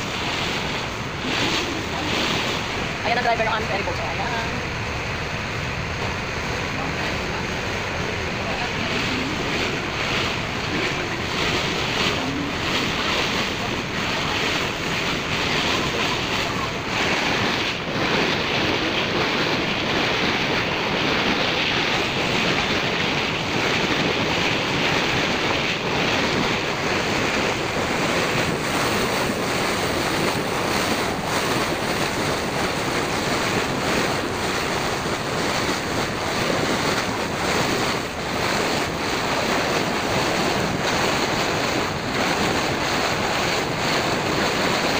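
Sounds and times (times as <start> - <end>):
water rushing along boat hull: 0.0 - 44.9
wind buffeting microphone: 0.0 - 44.9.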